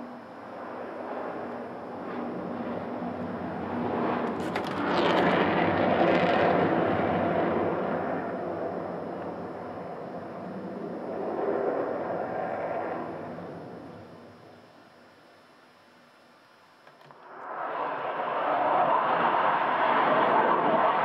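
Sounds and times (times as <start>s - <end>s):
jet bomber roaring past: 0.0s - 14.4s, 17.2s - 21.0s.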